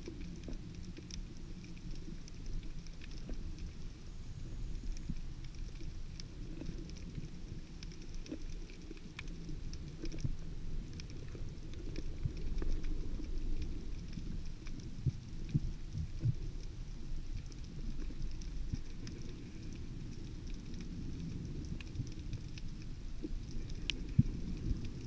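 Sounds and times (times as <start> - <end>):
faint clicks and crackles: 0.0 - 25.0
muffled underwater rumble: 0.0 - 25.0.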